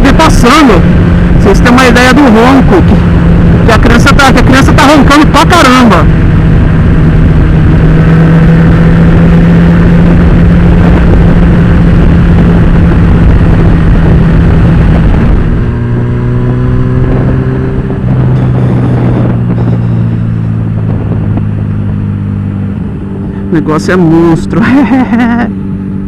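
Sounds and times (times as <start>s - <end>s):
motorcycle engine at high speed: 0.0s - 26.0s
wind noise on microphone: 0.0s - 26.0s.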